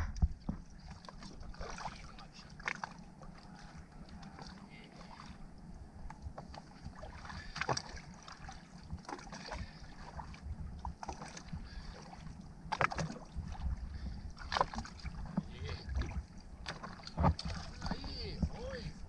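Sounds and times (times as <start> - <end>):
low steady rumble: 0.0 - 19.0
water lapping at boat side: 0.0 - 19.0
small splashes: 0.8 - 5.4, 6.5 - 18.8.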